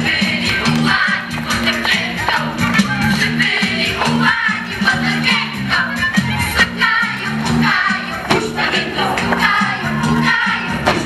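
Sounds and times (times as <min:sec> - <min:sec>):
folk dance music with singing: 0:00.0 - 0:11.0.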